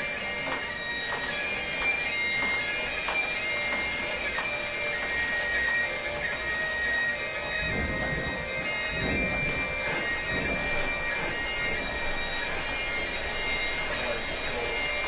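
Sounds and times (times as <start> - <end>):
bagpipes playing: 0.0 - 15.0.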